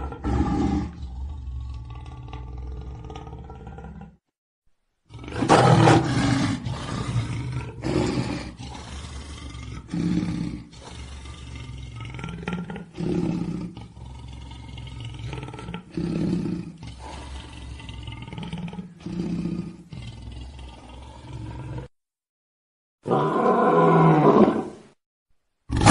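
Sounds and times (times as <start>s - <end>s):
big cats roaring: 0.0s - 4.2s, 5.1s - 21.9s, 23.0s - 24.8s.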